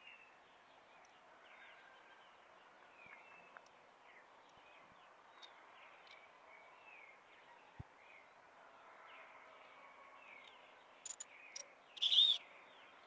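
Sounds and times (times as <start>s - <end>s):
small birds chirping: 0.0s - 8.4s, 10.2s - 13.0s.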